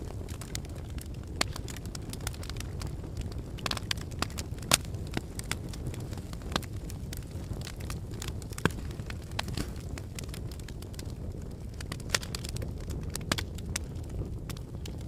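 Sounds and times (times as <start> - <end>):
lava cracking and crackling: 0.0 - 15.0
lava flow rumbling: 0.0 - 15.0.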